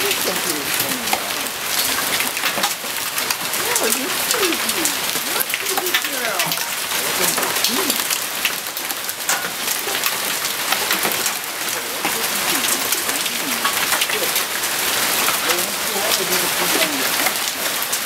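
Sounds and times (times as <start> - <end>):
hailstones ticking: 0.0 - 18.0
rain hissing: 0.0 - 18.0.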